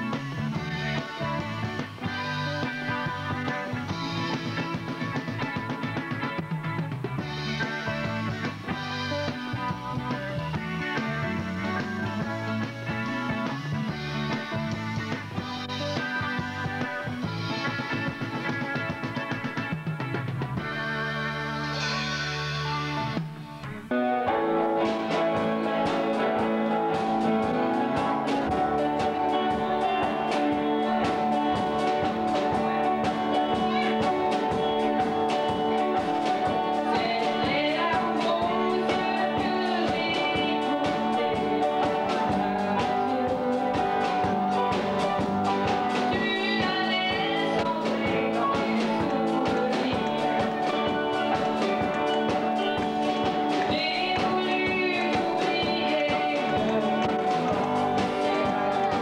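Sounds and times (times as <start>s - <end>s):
drum kit: 0.0s - 59.0s
electric guitars: 0.0s - 59.0s
electric keyboard: 0.0s - 59.0s.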